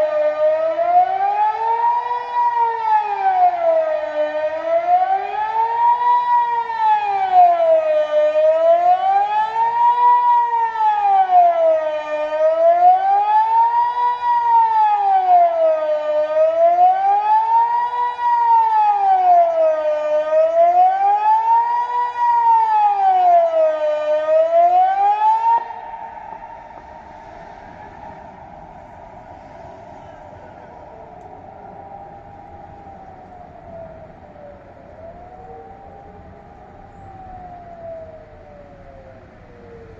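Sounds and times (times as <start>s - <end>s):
civil defence siren wailing: 0.0s - 39.9s.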